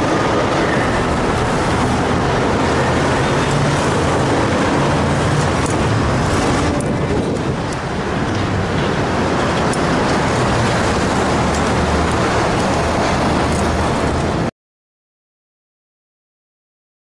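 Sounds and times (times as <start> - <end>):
low engine hum: 0.0 - 14.5
street traffic: 0.0 - 14.5.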